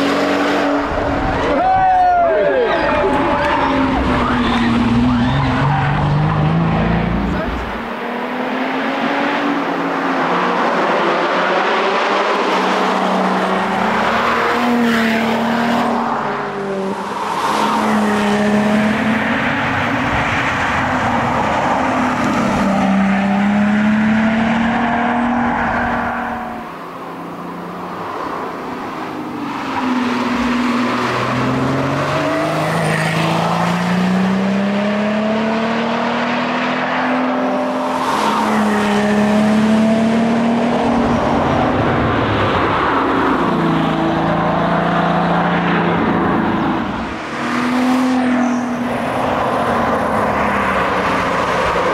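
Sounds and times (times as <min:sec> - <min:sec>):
car engine at full throttle: 0:00.0 - 0:51.9.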